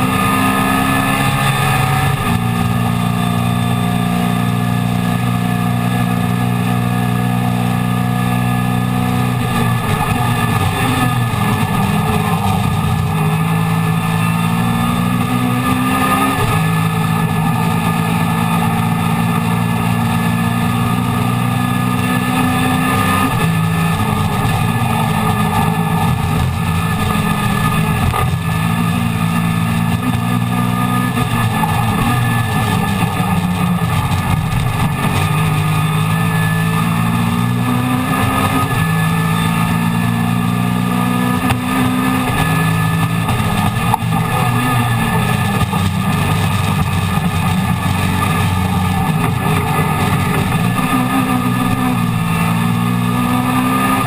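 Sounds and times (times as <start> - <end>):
race car engine running hard: 0.0 - 54.0
wind and road noise: 0.0 - 54.0.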